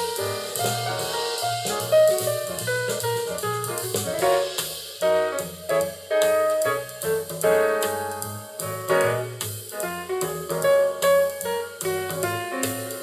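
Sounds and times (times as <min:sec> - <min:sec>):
jazz piano and drums: 0:00.0 - 0:13.0.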